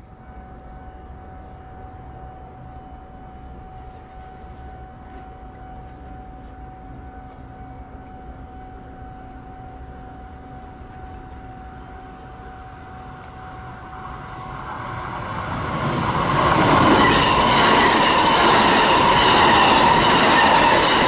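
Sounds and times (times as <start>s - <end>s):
steady high tone: 0.0s - 21.0s.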